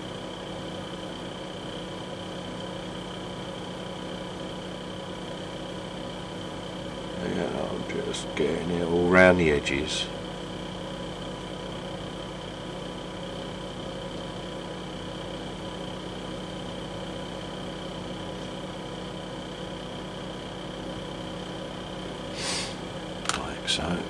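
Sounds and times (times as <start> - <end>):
background hum and hiss: 0.0 - 24.0
faint high whine: 0.0 - 24.0.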